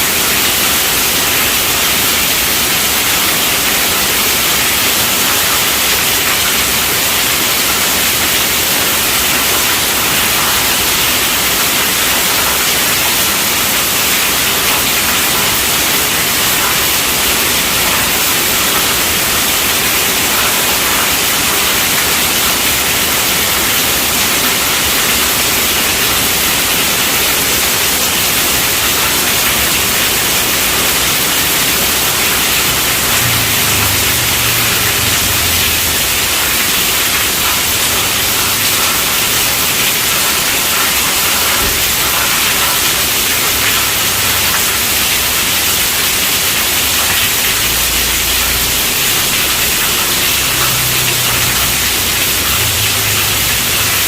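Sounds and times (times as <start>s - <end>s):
heavy rain on a tent roof: 0.0s - 54.0s.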